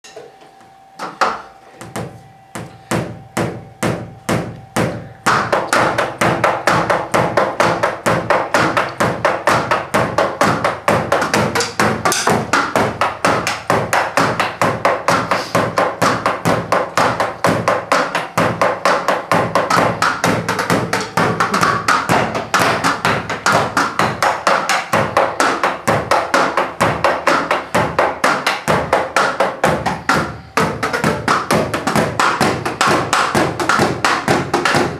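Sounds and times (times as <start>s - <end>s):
cooling fan humming: 0.0s - 34.9s
drumsticks tapping drum pads: 0.0s - 34.9s.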